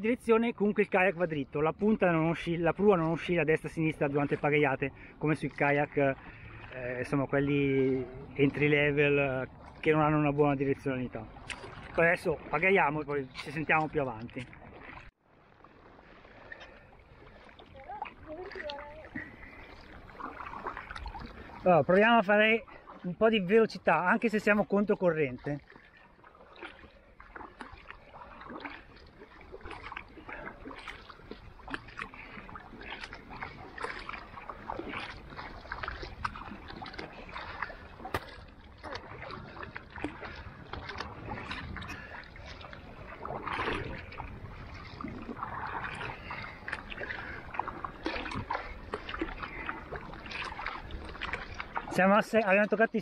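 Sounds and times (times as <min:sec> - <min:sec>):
paddle strokes splashing water: 0:00.0 - 0:53.0.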